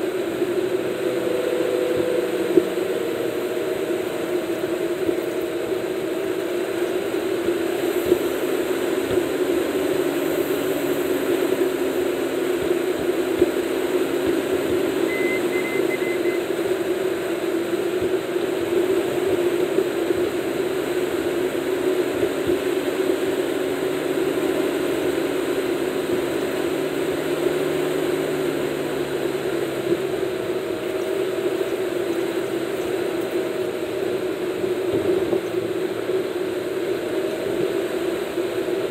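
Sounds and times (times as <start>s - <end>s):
car road noise inside cabin: 0.0s - 38.9s.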